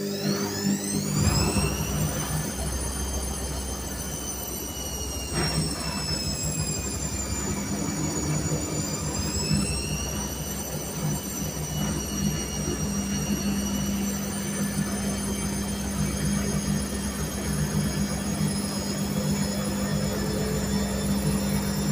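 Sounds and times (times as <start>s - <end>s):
washing machine running: 0.0s - 21.9s.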